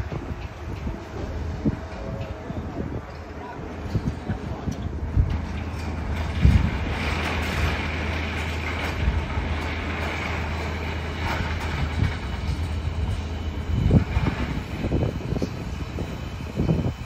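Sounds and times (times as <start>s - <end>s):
large engine humming: 0.0s - 17.0s.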